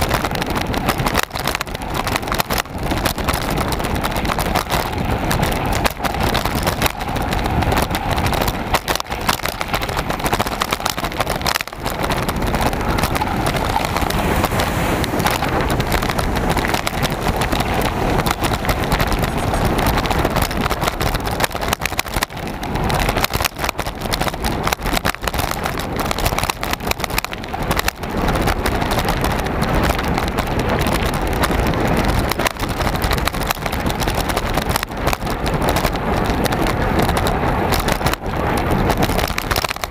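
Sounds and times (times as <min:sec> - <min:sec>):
bike knocks and rattles: 0:00.0 - 0:39.9
tyre rumble: 0:00.0 - 0:39.9
wind rush over microphone: 0:00.0 - 0:39.9.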